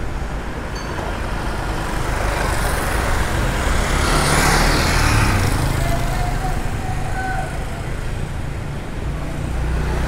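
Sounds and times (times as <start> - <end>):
cars and motorcycles passing: 0.0 - 10.0.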